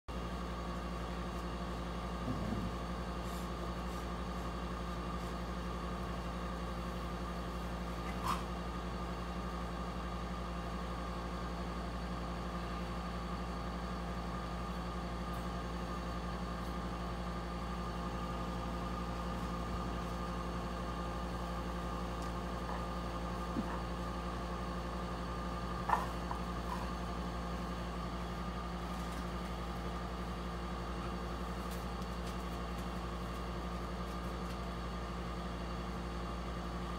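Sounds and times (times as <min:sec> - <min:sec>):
machine humming with steady tones: 0:00.1 - 0:36.9.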